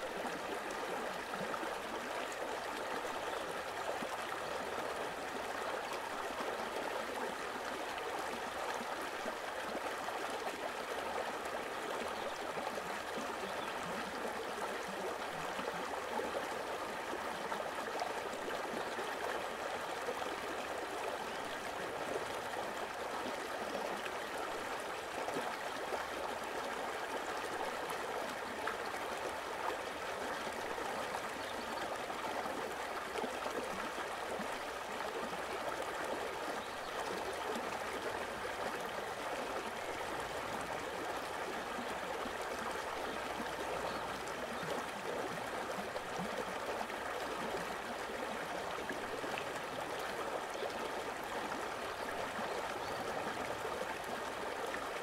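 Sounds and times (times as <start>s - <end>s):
steady running water: 0.0s - 55.0s.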